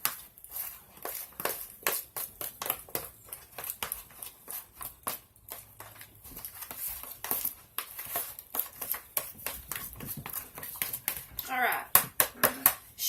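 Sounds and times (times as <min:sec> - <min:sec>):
spoon scraping a bowl: 0:00.0 - 0:11.4.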